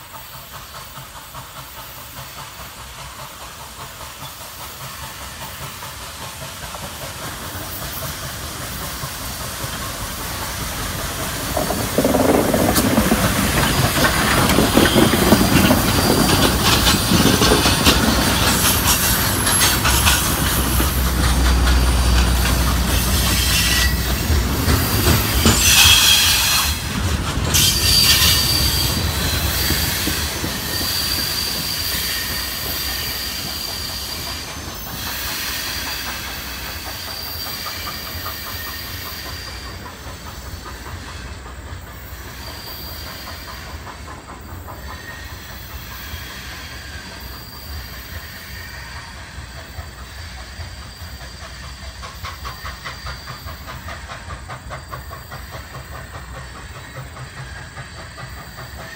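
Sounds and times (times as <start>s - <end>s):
steam locomotive passing: 0.0s - 58.9s
train wheels clattering: 0.0s - 58.9s
wheels squealing on rails: 0.0s - 58.9s.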